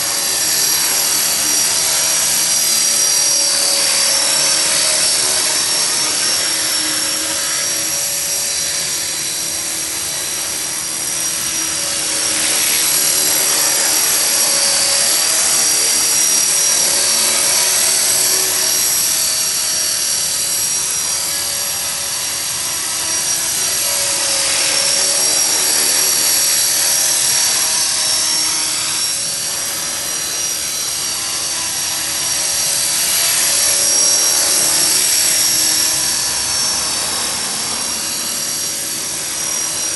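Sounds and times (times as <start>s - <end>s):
model helicopter motor whine: 0.0s - 39.9s
rotor buzzing: 0.0s - 39.9s.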